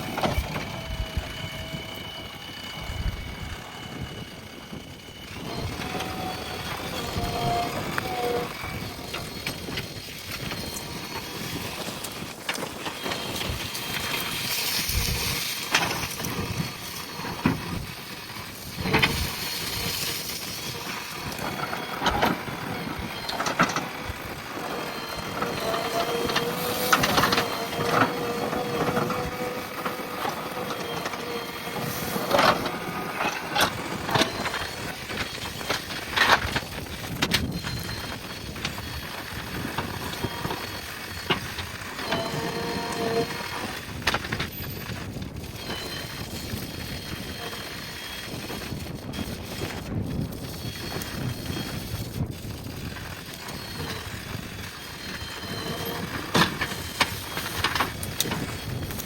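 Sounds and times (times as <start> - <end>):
backhoe loader engine running: 0.0 - 59.0
steady whine: 0.0 - 59.0.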